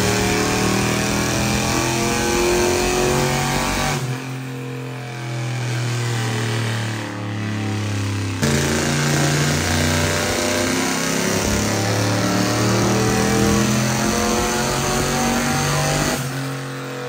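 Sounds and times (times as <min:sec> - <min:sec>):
engine running on dyno: 0:00.0 - 0:17.0.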